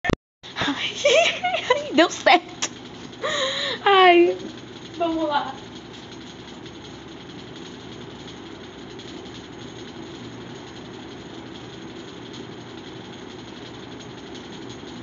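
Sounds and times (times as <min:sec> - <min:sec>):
steady background hum: 0:00.4 - 0:15.0.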